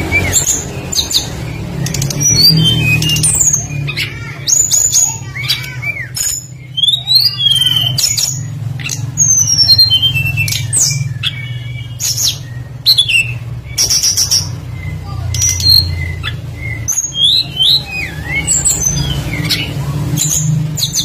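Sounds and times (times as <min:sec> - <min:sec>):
small songbirds calling: 0:00.0 - 0:21.0.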